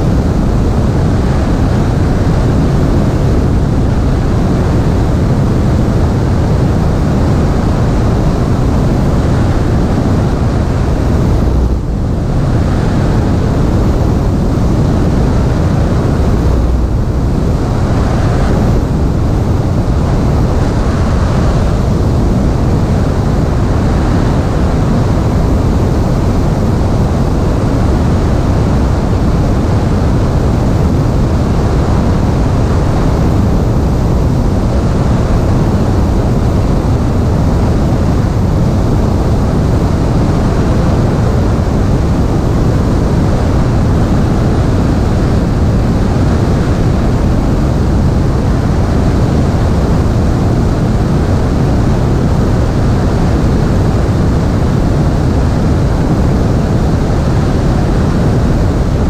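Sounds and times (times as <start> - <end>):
airflow rushing over microphone: 0.0 - 59.0
light plane engine and propeller: 0.0 - 59.0.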